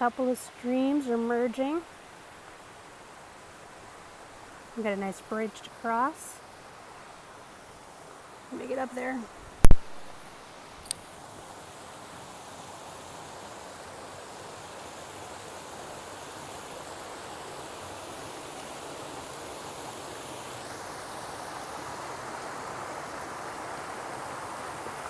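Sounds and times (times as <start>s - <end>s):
stream rushing over boulders: 0.0s - 25.0s.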